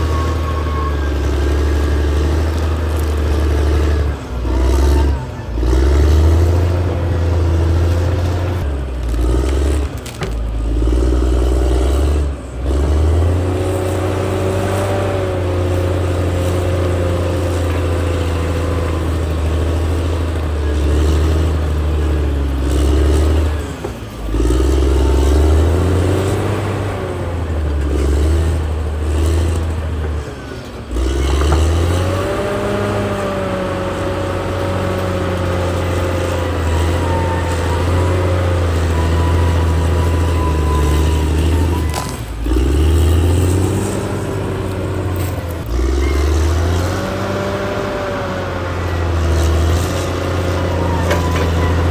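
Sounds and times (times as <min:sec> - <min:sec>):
bulldozer diesel engine working: 0:00.0 - 0:51.9.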